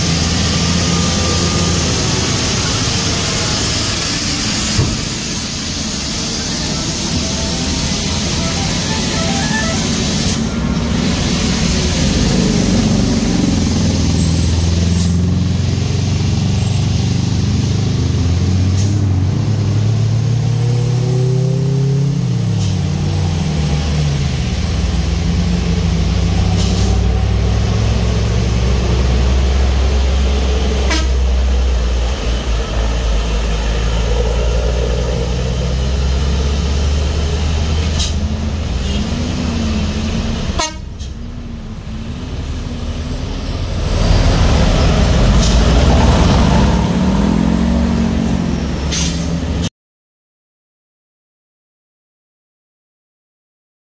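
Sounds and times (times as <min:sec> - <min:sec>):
truck engines under load: 0:00.0 - 0:49.7.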